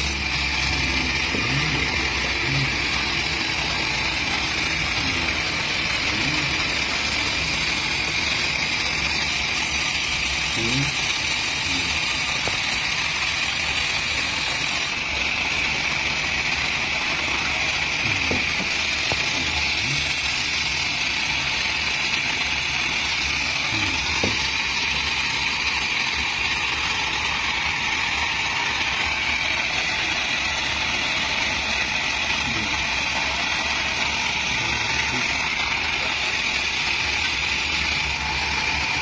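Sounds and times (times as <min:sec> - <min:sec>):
chainsaw running: 0:00.0 - 0:39.0.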